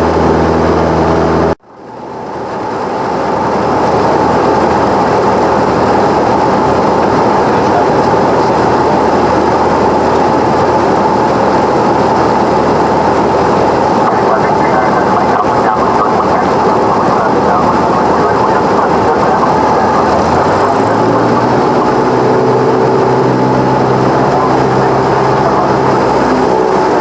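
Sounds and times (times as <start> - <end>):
propeller plane engine drone: 0.0 - 27.0
airflow rushing: 2.5 - 27.0.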